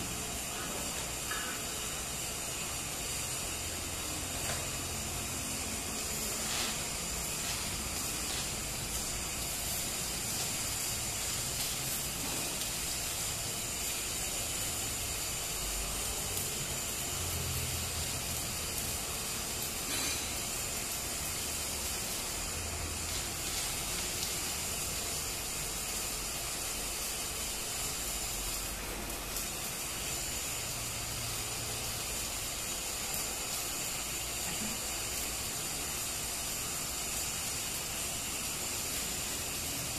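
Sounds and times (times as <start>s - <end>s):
welding arc hissing and crackling: 0.0s - 39.9s.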